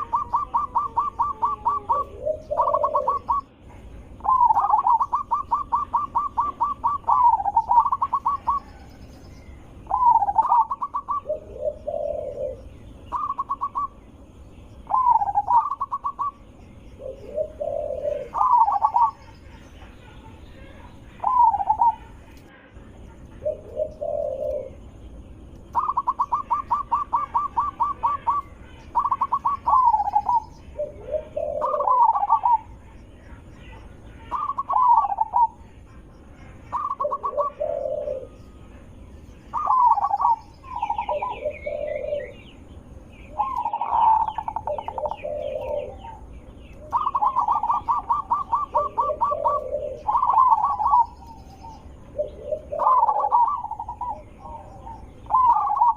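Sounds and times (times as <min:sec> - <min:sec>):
dove cooing: 0:00.0 - 0:55.9
small bird chirping: 0:00.0 - 0:55.9.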